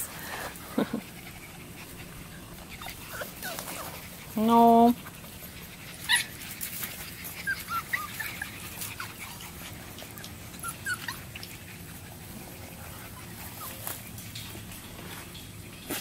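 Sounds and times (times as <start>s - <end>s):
puppies whimpering and yipping: 0.8s - 15.7s.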